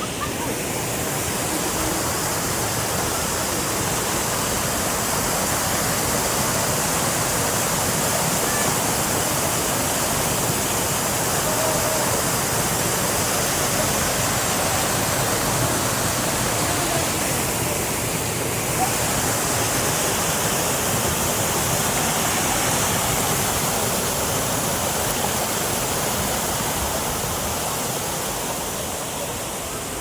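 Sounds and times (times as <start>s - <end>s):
waterfall crashing onto rocks: 0.0s - 30.0s.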